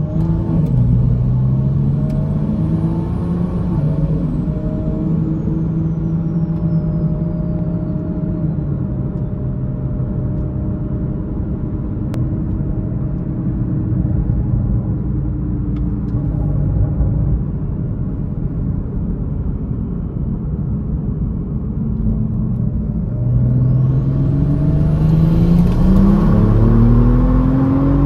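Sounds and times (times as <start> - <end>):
car engine cruising: 0.0 - 28.0
road rumble: 0.0 - 28.0.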